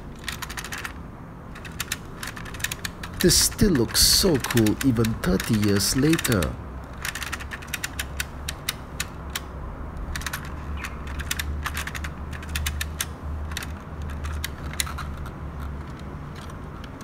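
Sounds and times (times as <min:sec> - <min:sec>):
rapid plastic clicking: 0:00.0 - 0:17.0
toy wheels rolling on tiles: 0:00.1 - 0:09.1, 0:10.1 - 0:17.0.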